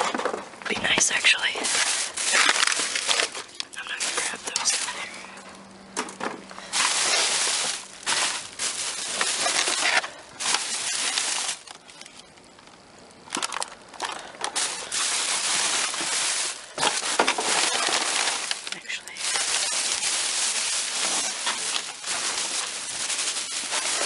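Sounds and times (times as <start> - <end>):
plastic bags rustling and crinkling: 0.0 - 24.0.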